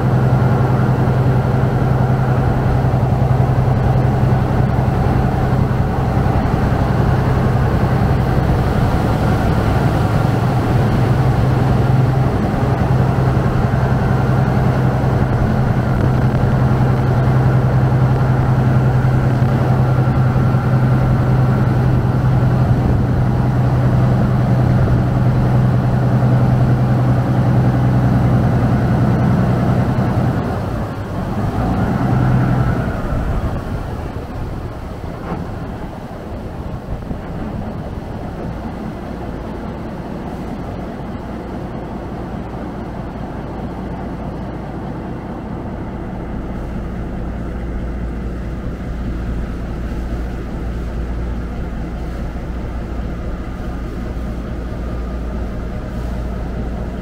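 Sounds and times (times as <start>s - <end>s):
boat diesel engine drone: 0.0s - 57.0s
water rushing along hull: 0.0s - 57.0s.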